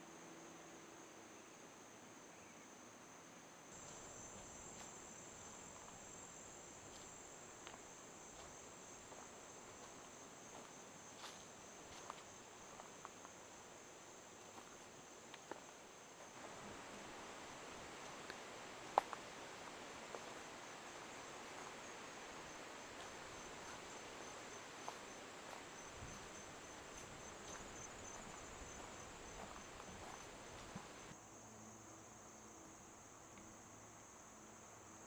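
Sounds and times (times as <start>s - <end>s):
faint hiss: 0.0s - 35.0s
insects trilling: 3.7s - 32.7s.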